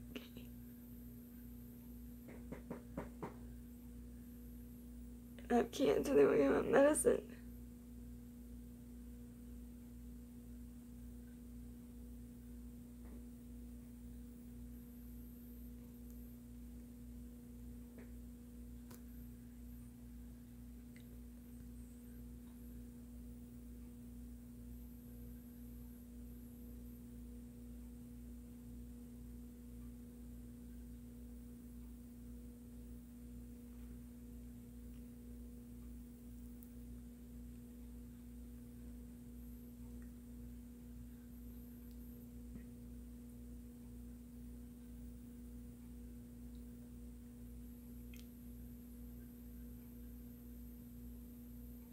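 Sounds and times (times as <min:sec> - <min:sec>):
faint steady hum with tone: 0:00.0 - 0:51.9.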